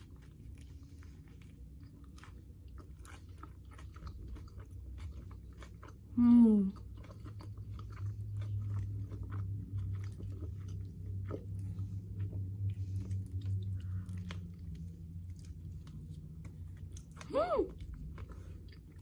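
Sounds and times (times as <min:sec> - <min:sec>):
person chewing food: 0:00.0 - 0:19.0
steady low hum: 0:00.0 - 0:19.0.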